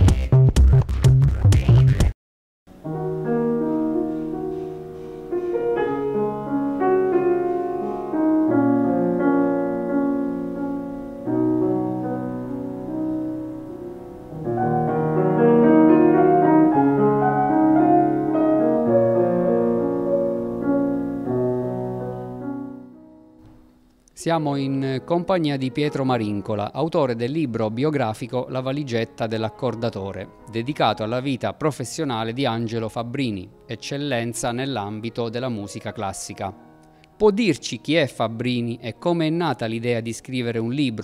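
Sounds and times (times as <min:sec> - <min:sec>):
slow piano chords: 0:02.7 - 0:40.8.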